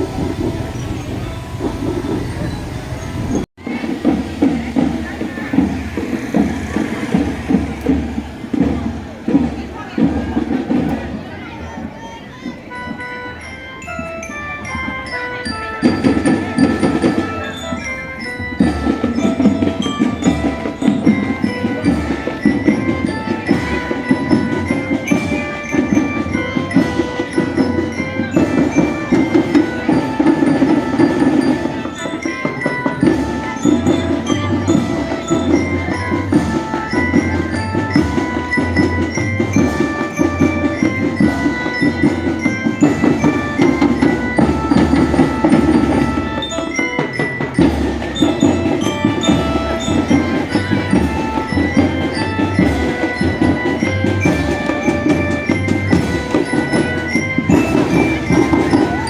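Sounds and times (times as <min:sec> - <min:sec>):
snare and bass drumming: 0:00.0 - 0:11.5, 0:15.8 - 0:59.0
glockenspiel melody: 0:00.0 - 0:59.0.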